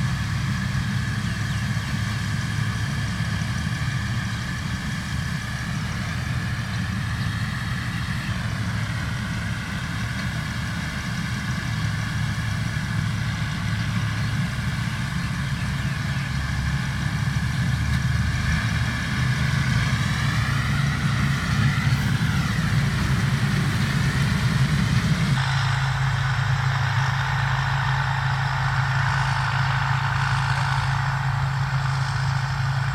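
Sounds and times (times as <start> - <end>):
diesel engine running under load: 0.0 - 32.9.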